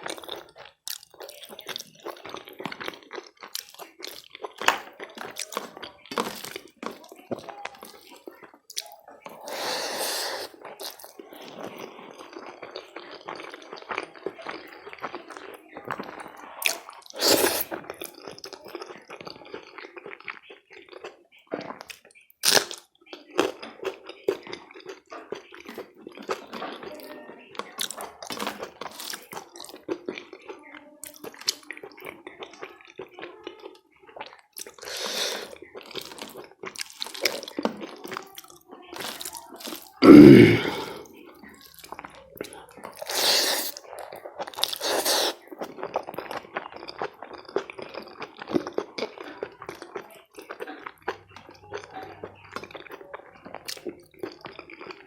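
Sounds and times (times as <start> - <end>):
wet chewing and lip smacks: 0.0 - 9.6, 10.4 - 27.0, 27.6 - 40.0, 40.8 - 55.0.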